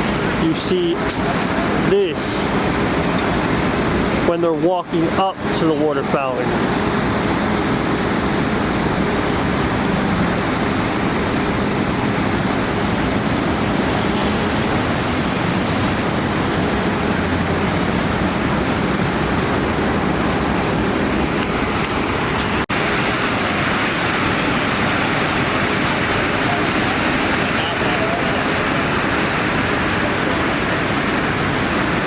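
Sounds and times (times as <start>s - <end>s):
water fountain splashing: 0.0s - 32.0s.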